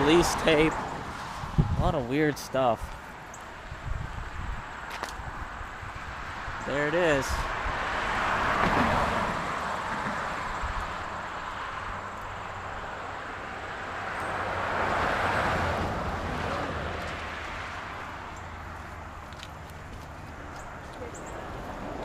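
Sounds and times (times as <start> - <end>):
cars passing by: 0.0 - 22.0
low traffic hum: 0.0 - 22.0.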